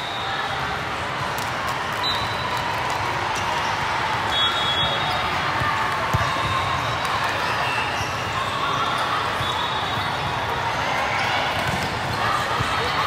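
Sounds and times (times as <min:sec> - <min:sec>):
crowd chatter murmur: 0:00.0 - 0:13.0.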